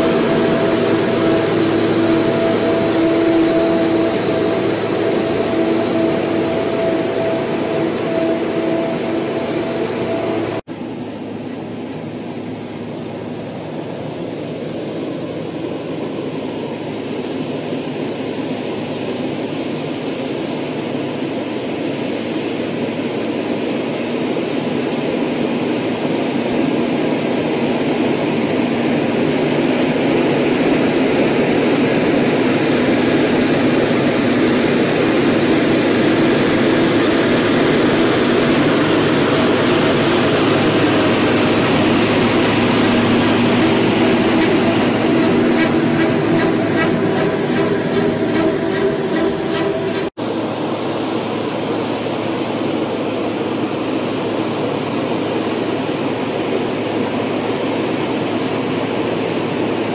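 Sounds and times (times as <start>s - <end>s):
heavy transporter engine drone: 0.0s - 59.9s.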